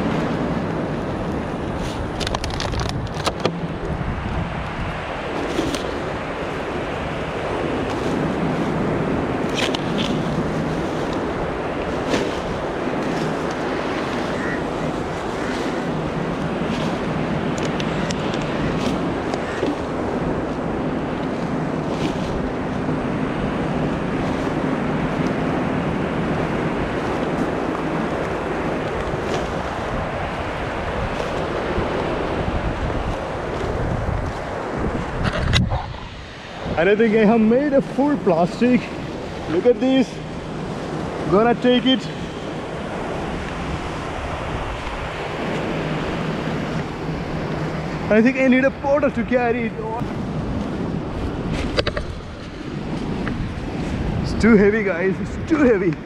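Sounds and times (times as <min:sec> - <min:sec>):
surf washing on shore: 0:00.0 - 0:56.0
wind buffeting microphone: 0:00.0 - 0:56.0.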